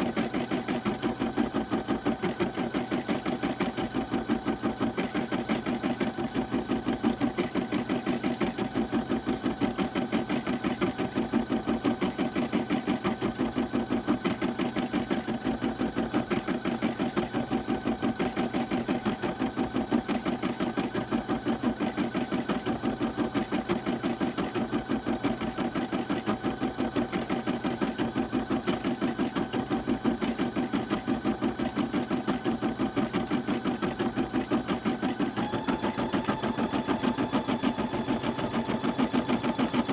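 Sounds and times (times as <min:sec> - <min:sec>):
embroidery machine stitching: 0:00.0 - 0:39.9.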